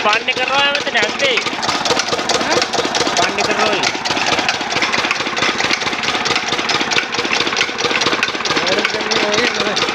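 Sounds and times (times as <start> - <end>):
engine idling with rapid knocking: 0.0 - 9.9.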